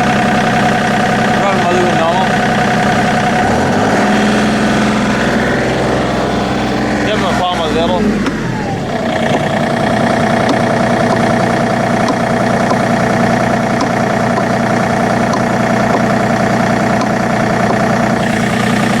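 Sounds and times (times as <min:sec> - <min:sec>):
steady whine: 0:00.0 - 0:19.0
tractor diesel engine running: 0:00.0 - 0:19.0.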